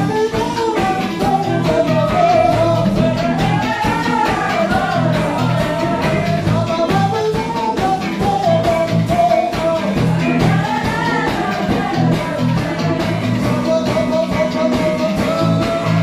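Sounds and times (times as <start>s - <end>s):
band playing upbeat ska tune: 0.0s - 16.0s.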